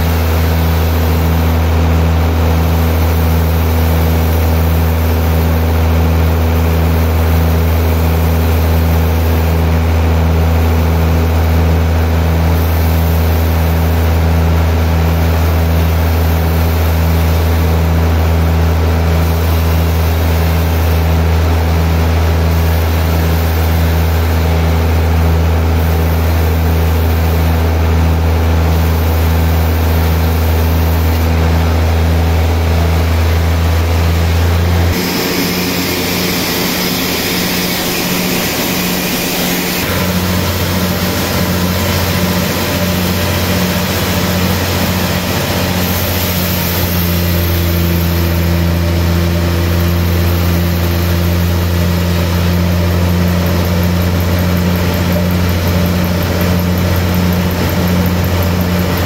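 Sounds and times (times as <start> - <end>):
band saw cutting timber: 0.0 - 59.0.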